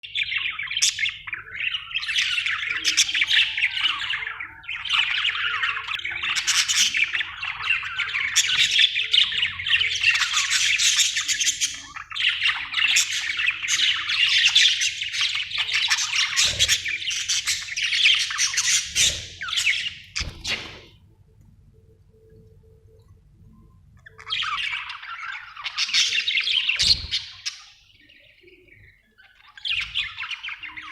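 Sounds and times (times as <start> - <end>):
budgerigars chattering: 0.2 - 20.9, 24.0 - 28.6.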